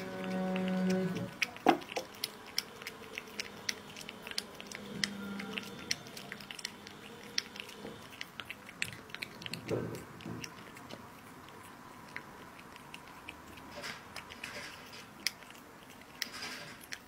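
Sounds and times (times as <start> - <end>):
cat chewing and licking: 0.0 - 17.0.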